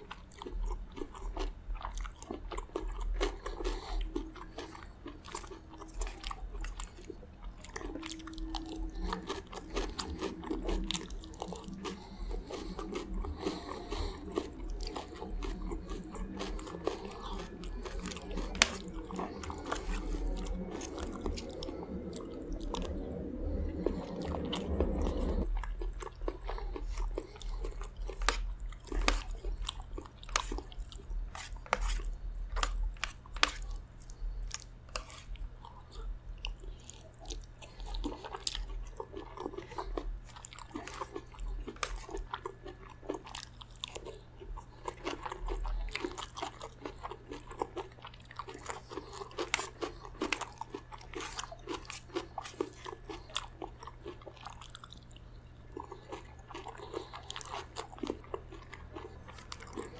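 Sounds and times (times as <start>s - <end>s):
person chewing with crunches: 0.0s - 59.9s
wet mouth sounds: 0.0s - 59.9s.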